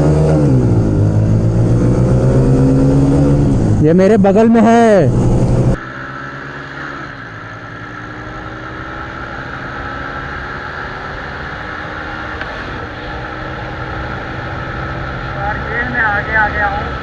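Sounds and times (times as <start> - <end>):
motorcycle engine at full throttle: 0.0 - 17.0.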